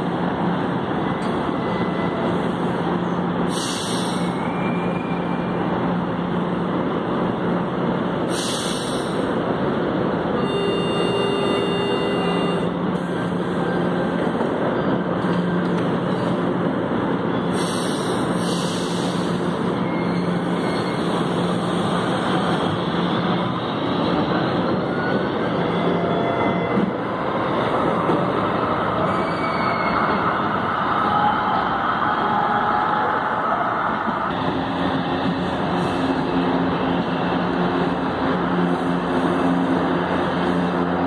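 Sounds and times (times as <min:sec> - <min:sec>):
train humming: 0:00.0 - 0:41.0.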